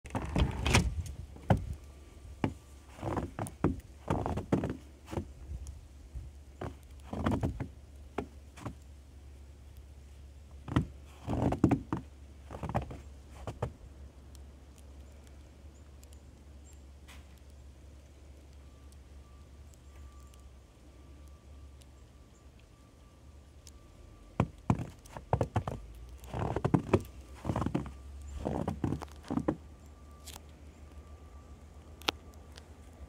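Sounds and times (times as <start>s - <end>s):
faint low hum: 0.1s - 33.0s.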